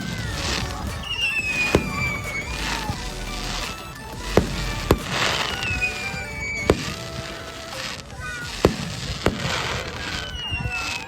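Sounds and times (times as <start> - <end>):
crackling hiss: 0.0 - 11.0.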